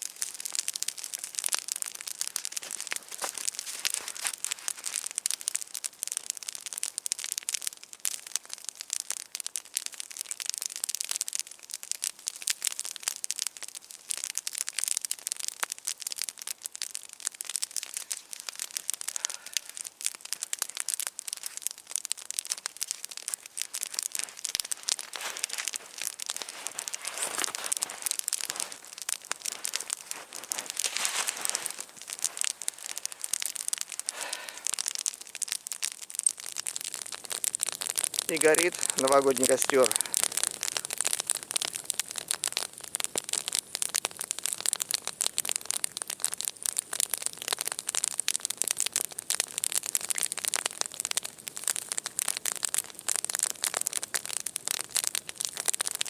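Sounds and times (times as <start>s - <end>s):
campfire crackling and popping: 0.0s - 56.0s
fire hissing: 0.0s - 56.0s.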